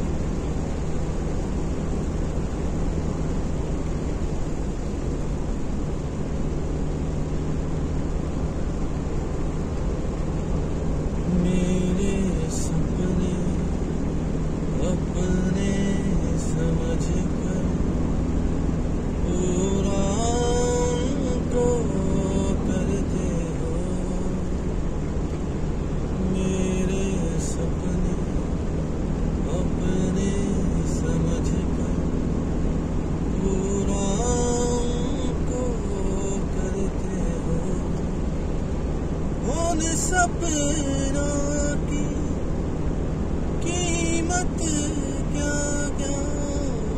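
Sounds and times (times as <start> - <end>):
road and engine noise in car: 0.0 - 46.9.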